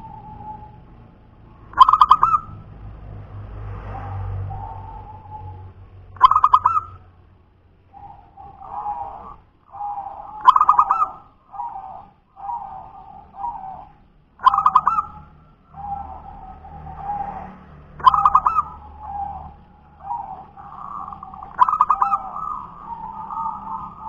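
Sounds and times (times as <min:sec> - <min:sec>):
dove cooing song: 0:00.0 - 0:03.0, 0:03.8 - 0:07.2, 0:07.8 - 0:24.0.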